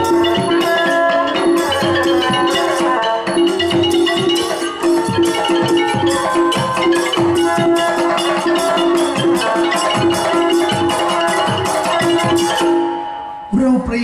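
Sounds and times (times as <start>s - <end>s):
steady percussion beat: 0.0s - 14.0s
xylophone-like melody: 0.0s - 14.0s.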